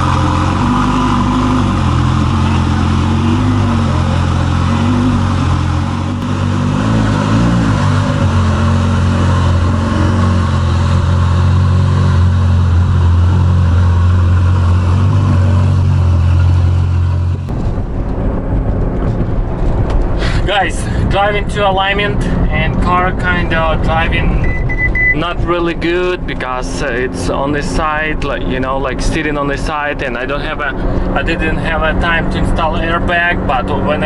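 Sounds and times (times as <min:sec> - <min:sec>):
car engine drone: 0:00.0 - 0:34.0.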